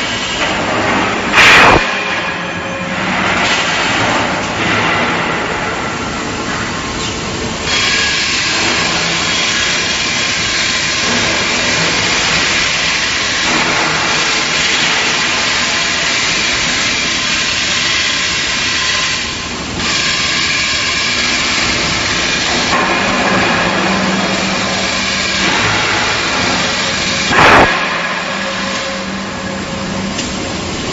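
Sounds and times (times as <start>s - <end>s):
machinery hum: 0.0s - 30.9s.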